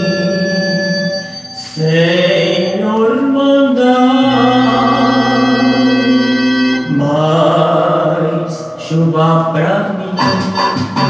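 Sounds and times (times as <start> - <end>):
song on vinyl record: 0.0 - 11.0.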